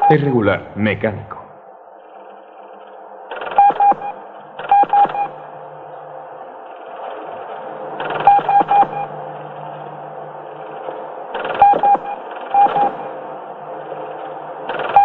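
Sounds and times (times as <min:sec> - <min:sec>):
steady electronic hum: 0:00.0 - 0:15.0.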